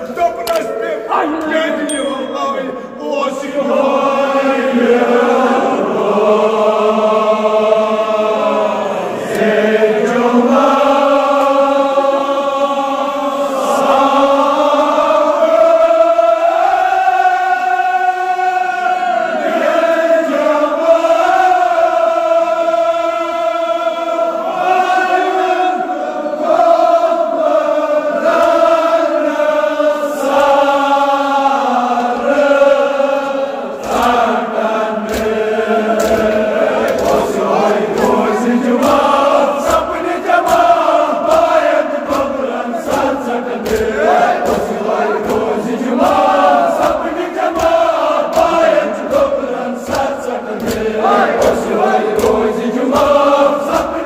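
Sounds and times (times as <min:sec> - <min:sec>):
men chanting together: 0:02.8 - 0:54.0.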